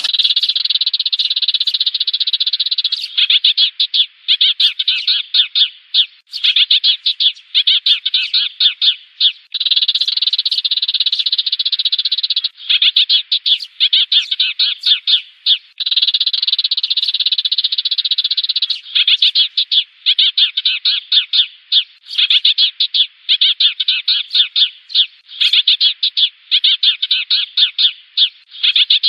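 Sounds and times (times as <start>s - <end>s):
sparrows chirping and chattering: 0.0s - 29.0s.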